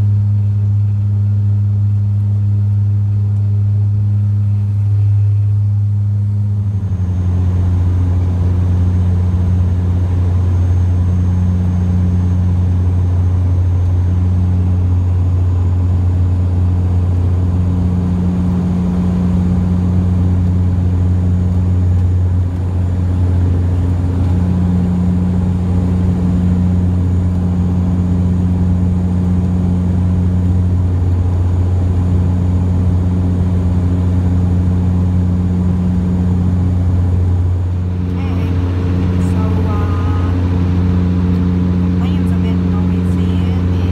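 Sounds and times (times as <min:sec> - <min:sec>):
faint high whine: 0:00.0 - 0:43.9
propeller engine drone: 0:00.0 - 0:43.9.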